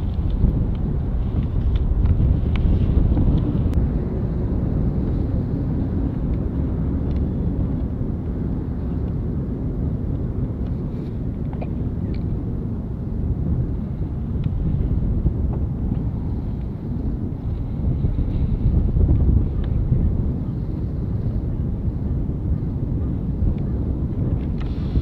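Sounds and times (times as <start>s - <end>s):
distant jet engine rumble: 0.0s - 25.0s
wind noise on microphone: 0.0s - 25.0s.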